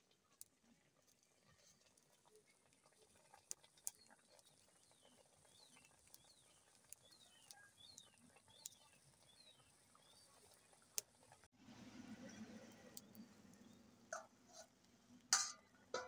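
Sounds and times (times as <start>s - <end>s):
pork frying in a wok: 0.0s - 16.0s
wood fire crackling: 0.0s - 16.0s.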